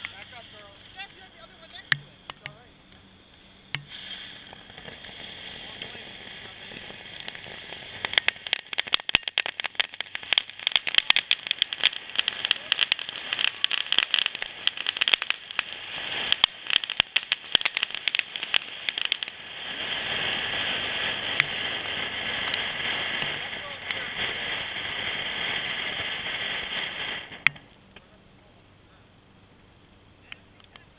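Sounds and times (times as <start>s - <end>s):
hiss of spraying sparks: 0.0s - 1.1s, 3.4s - 27.5s
firework crackling pops: 0.0s - 28.2s.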